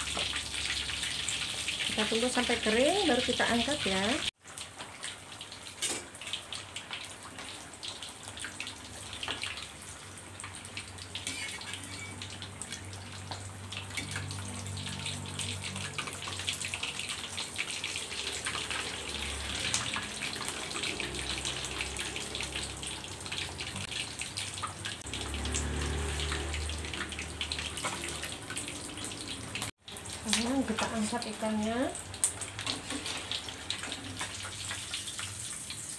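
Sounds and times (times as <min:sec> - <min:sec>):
fish deep-frying in hot oil: 0:00.0 - 0:35.9.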